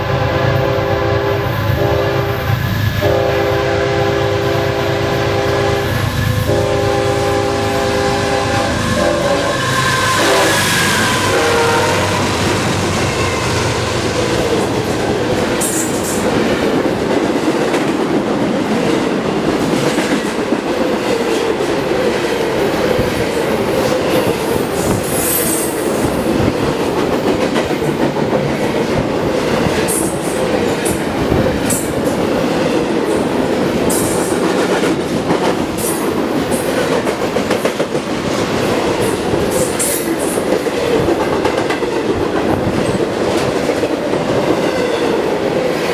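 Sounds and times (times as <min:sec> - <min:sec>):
freight train wheels rumbling: 0:00.0 - 0:45.9.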